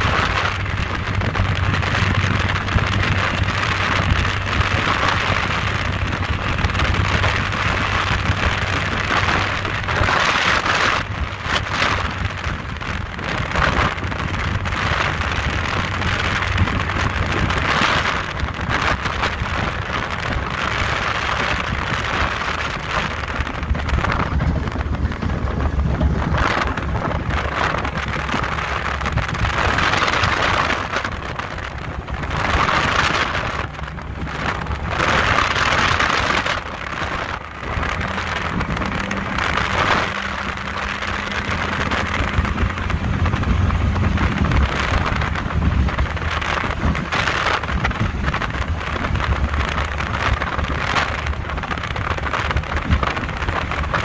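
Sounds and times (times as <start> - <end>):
powerboat engine drone: 0.0 - 54.0
rush of wind: 0.0 - 54.0.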